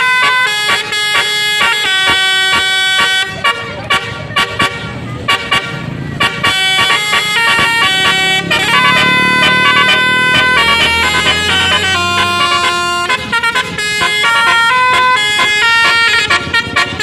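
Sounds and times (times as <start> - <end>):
multi-tone bus air horn melody: 0.0 - 17.0
short sharp horn toots: 0.2 - 17.0.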